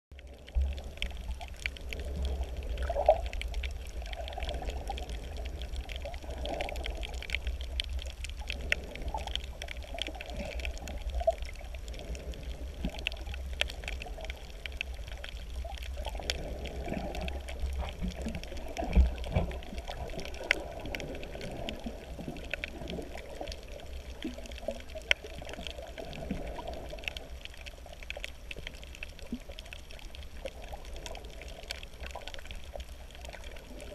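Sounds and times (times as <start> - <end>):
sharp clicks and crackles: 0.1 - 33.9
water sloshing and bubbling underwater: 0.1 - 33.9.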